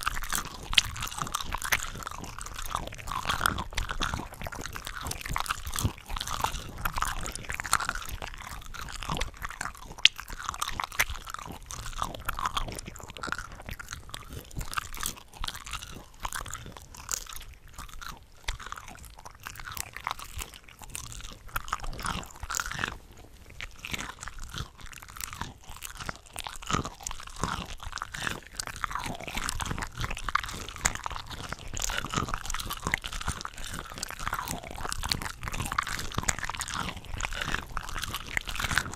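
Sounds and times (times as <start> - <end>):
chewing shrimp with small crunches: 0.0 - 38.9.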